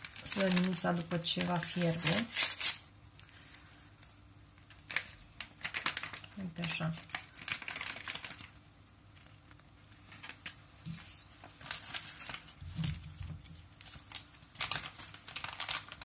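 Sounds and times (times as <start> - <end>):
plastic sachets crinkling: 0.0 - 16.0.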